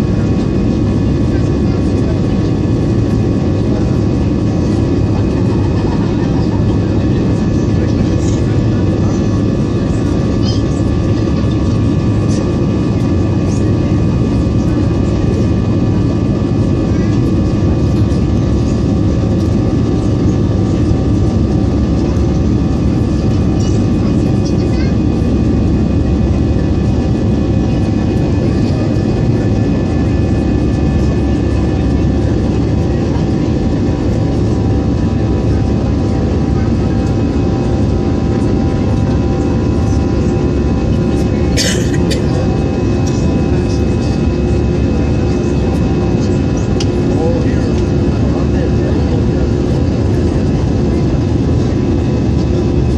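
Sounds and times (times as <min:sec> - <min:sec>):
jet engine cabin rumble: 0:00.0 - 0:52.9.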